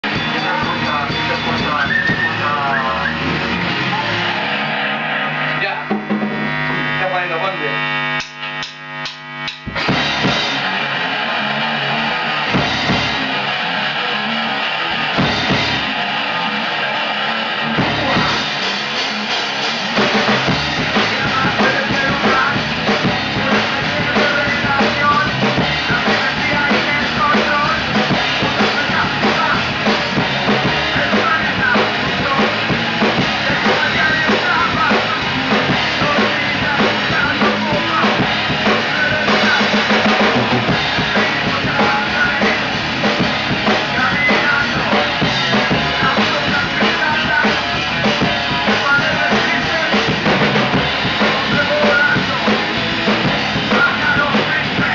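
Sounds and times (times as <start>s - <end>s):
bass drum and snare beat: 0.0s - 7.4s, 8.1s - 54.9s
band playing: 0.0s - 54.9s.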